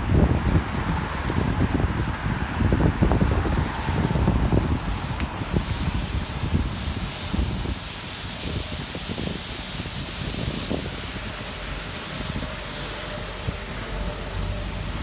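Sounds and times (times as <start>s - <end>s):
street traffic: 0.0s - 15.0s
wind buffeting microphone: 0.0s - 15.0s
rain hiss: 0.1s - 15.0s.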